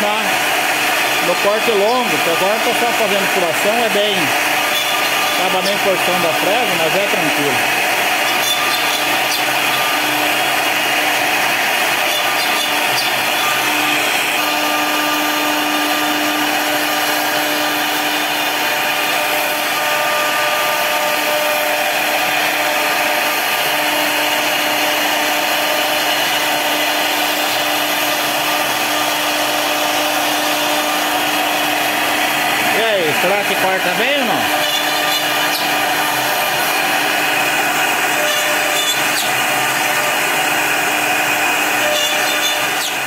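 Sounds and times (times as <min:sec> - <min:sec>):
bit cutting into plywood: 0:00.0 - 0:43.0
router spindle high tone: 0:00.0 - 0:43.0.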